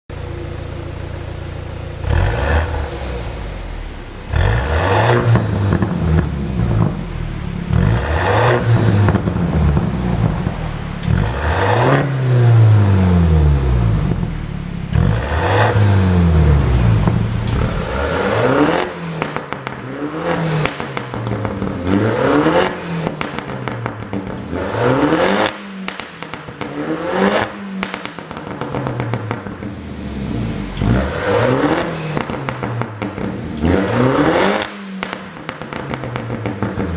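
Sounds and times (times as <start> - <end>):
car engine revving: 0.1 - 36.9
exhaust pops and crackles: 1.9 - 36.9.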